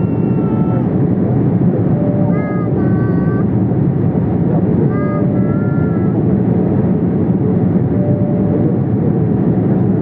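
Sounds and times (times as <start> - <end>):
airplane cabin noise: 0.0 - 10.0.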